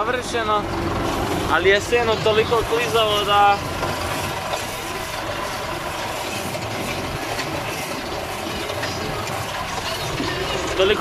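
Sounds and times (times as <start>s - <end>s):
tractor engine running: 0.0s - 11.0s
hay rake clattering: 0.6s - 11.0s.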